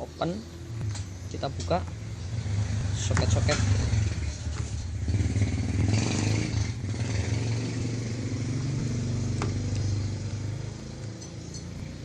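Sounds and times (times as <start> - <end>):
motor engine droning: 0.6 - 12.0.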